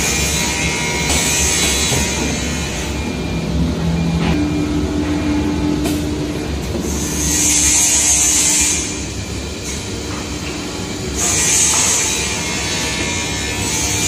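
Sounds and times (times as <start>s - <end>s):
milling machine motor humming: 0.0s - 14.0s.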